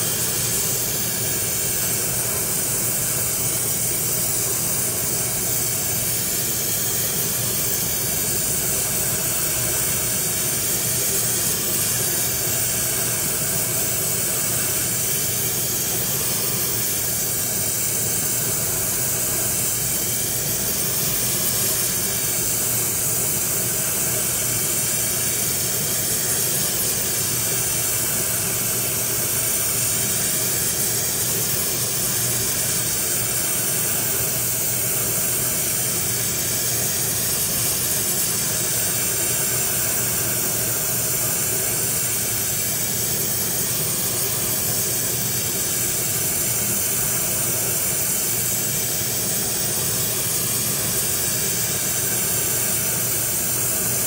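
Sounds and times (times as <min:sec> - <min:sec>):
gas torch flame hissing: 0:00.0 - 0:54.0.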